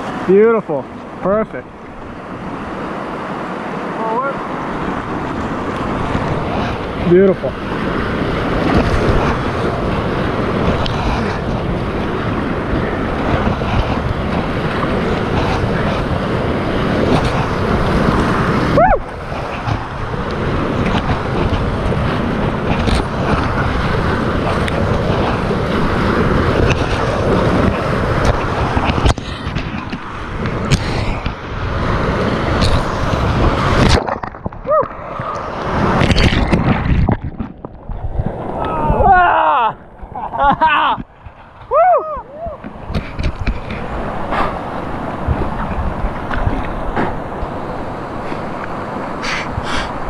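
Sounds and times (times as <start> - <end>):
rapids rushing and splashing: 0.0 - 50.0.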